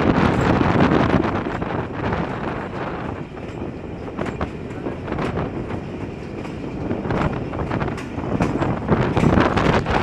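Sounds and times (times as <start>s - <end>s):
train wheels rumbling on rail: 0.0s - 10.0s
wheels clicking and clacking: 0.0s - 10.0s.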